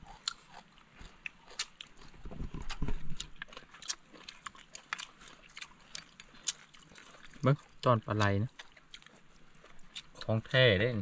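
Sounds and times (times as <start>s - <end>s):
chewing and lip-smacking: 0.0s - 10.6s.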